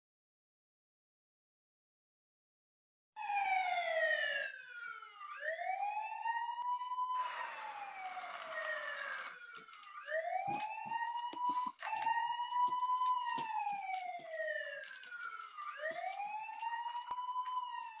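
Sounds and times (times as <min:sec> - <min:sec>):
siren wailing: 0:03.2 - 0:18.0.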